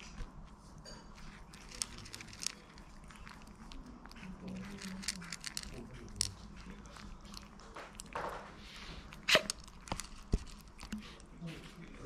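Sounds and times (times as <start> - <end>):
puppies crunching dry kibble: 0.0 - 12.0.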